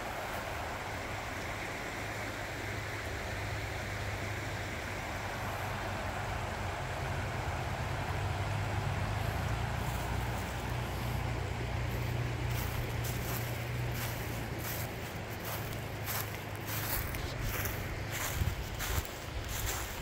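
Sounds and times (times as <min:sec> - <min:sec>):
creek water babbling over stones: 0:00.0 - 0:20.0.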